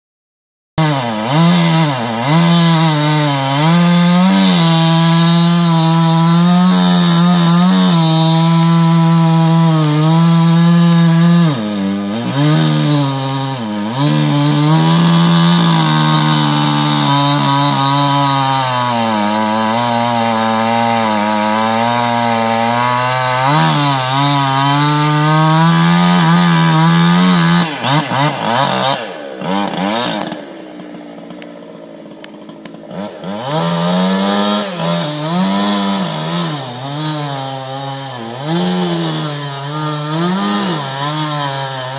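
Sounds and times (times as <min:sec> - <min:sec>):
chainsaw cutting wood: 0:00.8 - 0:41.9.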